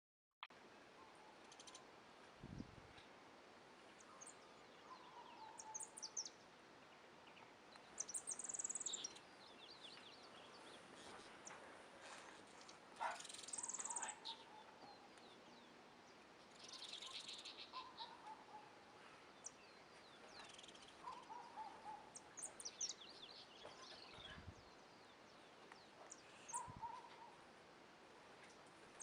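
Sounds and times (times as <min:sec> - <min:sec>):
birds chirping and trilling: 0:01.0 - 0:02.0, 0:03.8 - 0:27.5.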